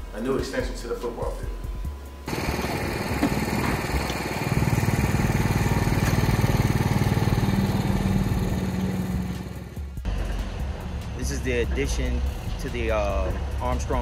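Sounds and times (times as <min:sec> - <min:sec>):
construction machinery engine running: 0:02.3 - 0:14.0.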